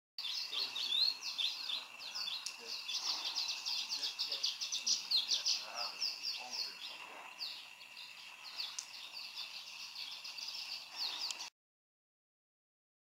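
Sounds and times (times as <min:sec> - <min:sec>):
swallow twittering: 0:00.2 - 0:11.5.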